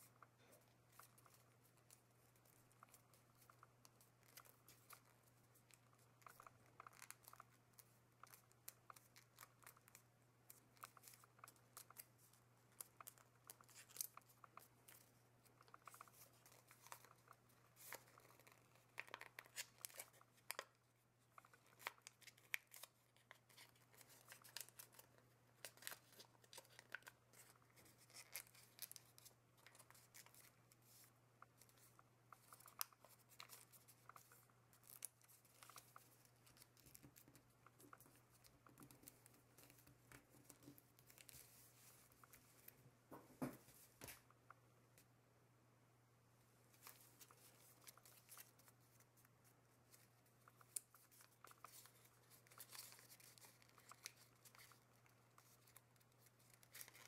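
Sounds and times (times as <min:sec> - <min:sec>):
paper crinkling while folded: 0:00.0 - 0:42.8, 0:46.7 - 0:57.0.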